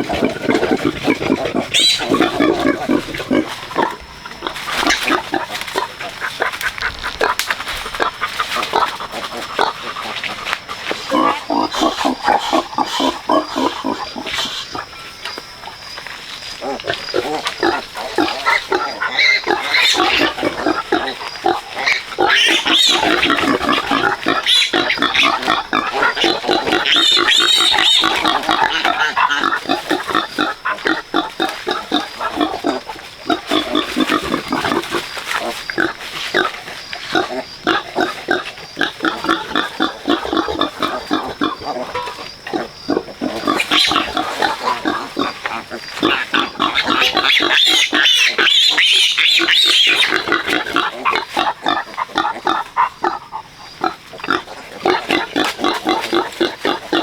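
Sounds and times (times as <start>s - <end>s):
pigs grunting and squealing: 0.0s - 15.1s, 16.5s - 57.0s.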